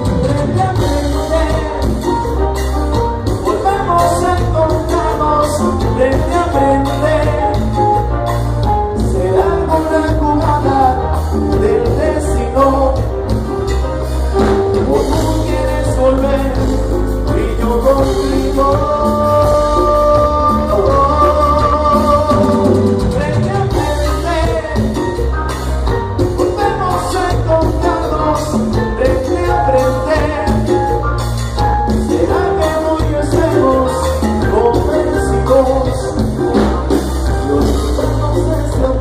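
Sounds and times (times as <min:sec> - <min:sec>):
person singing: 0:00.0 - 0:13.8, 0:14.4 - 0:39.0
latin band playing: 0:00.0 - 0:39.0.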